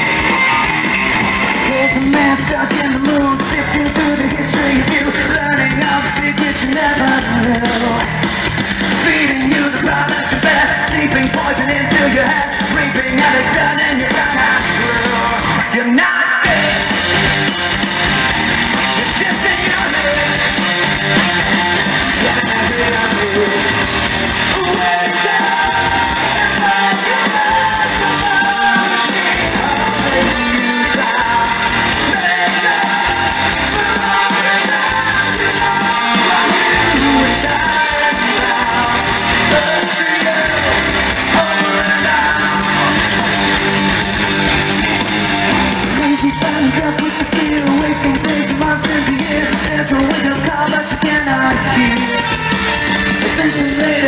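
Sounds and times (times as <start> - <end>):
lead vocal singing: 0.0 - 44.5, 45.9 - 54.0
rock band playing live: 0.0 - 54.0.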